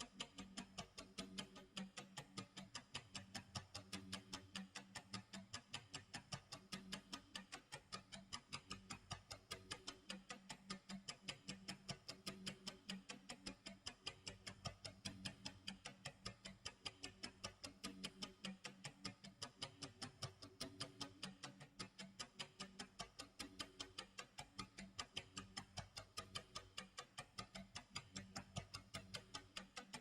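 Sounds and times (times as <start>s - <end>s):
clock ticking: 0.0s - 30.0s.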